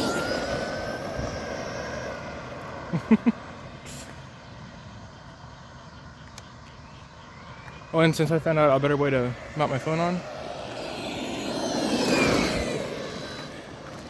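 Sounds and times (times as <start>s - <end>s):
vehicle passing with whine: 0.0s - 6.2s, 6.8s - 14.0s
low steady background noise: 0.0s - 14.0s.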